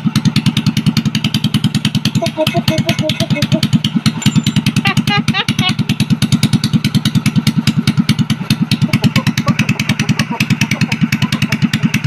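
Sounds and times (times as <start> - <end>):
motorcycle engine idling loudly: 0.0 - 12.0.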